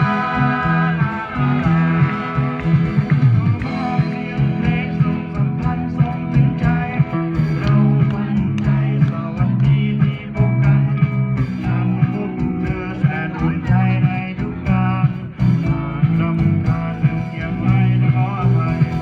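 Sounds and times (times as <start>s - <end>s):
electric guitar: 0.0s - 19.0s
rock band playing: 0.0s - 19.0s.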